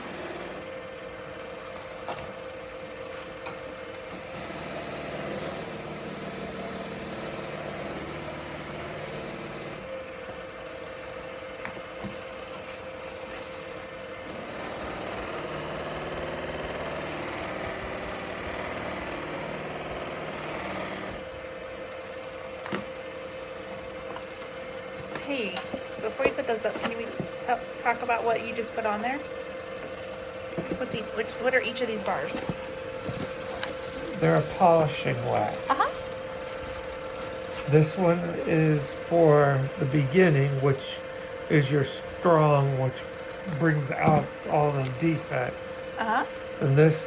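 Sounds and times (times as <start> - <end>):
wood lathe humming: 0.0 - 0.8, 2.8 - 21.8, 22.6 - 47.0.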